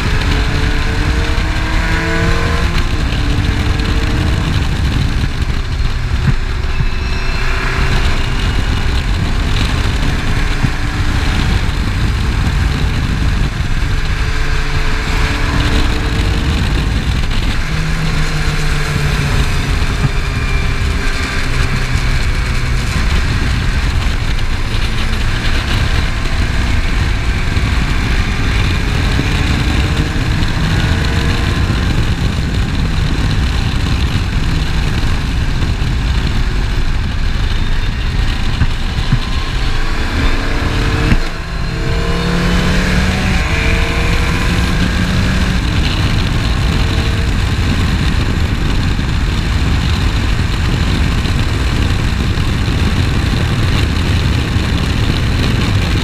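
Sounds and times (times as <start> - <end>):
race car engine running hard: 0.0 - 56.0
wind noise rushing: 0.0 - 56.0.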